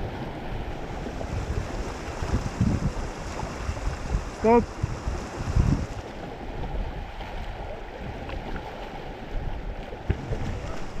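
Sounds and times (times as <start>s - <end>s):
rushing river water: 0.0s - 11.0s
wind buffeting microphone: 0.0s - 11.0s.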